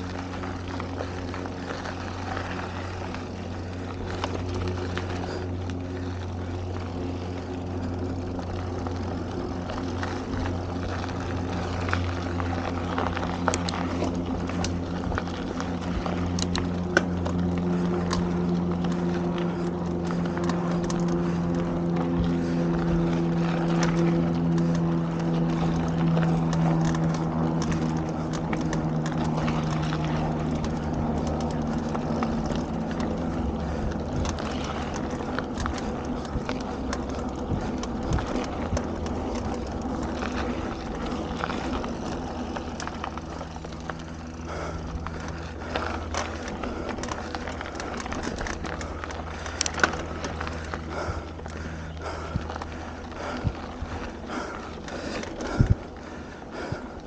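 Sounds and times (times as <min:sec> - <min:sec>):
bike frame and chain rattling: 0:00.0 - 0:57.0
tyre and wind rumble: 0:00.0 - 0:57.0.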